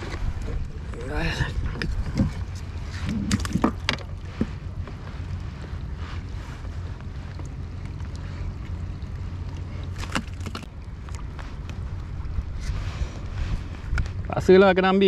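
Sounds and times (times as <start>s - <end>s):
wind buffeting microphone: 0.0s - 9.5s, 10.6s - 15.0s.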